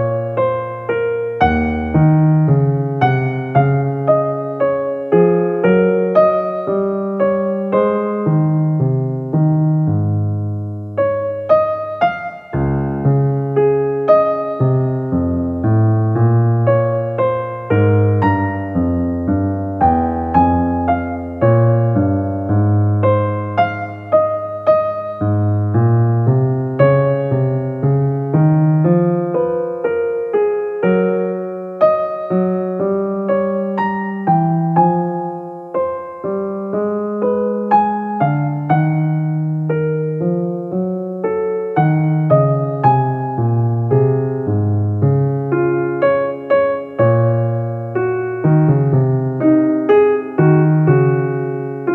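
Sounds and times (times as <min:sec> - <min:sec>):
piano music: 0:00.0 - 0:51.9.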